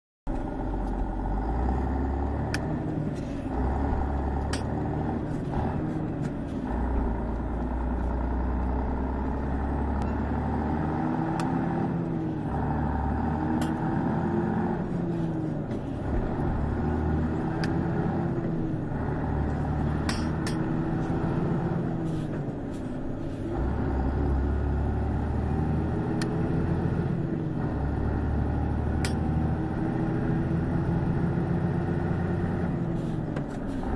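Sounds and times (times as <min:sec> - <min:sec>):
diesel truck engine pulling hard: 0:00.3 - 0:33.9.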